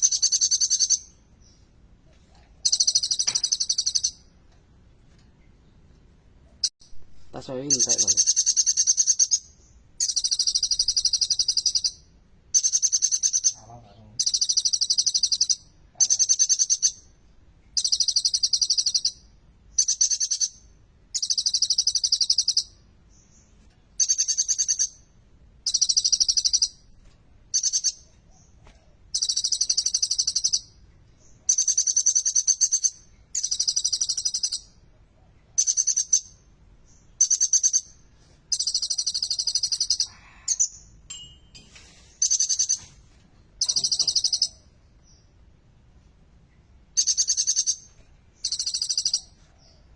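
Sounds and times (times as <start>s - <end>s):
bird twittering song: 0.0s - 1.8s, 2.6s - 4.3s, 6.5s - 26.9s, 27.5s - 43.0s, 43.6s - 45.5s, 46.6s - 49.9s.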